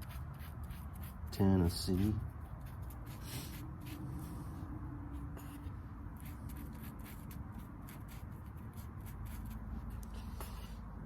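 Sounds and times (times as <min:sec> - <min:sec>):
brush scratching on wood: 0:00.0 - 0:10.9.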